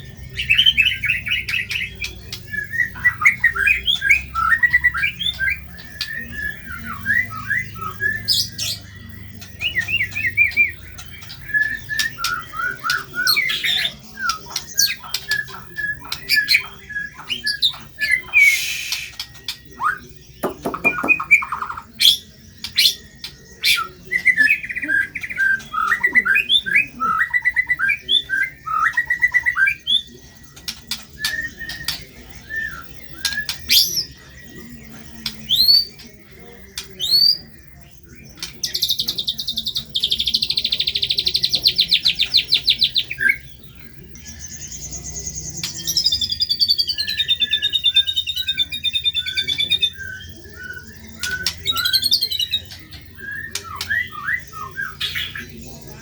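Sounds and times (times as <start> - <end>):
songbird singing fast varied song: 0.0 - 56.0.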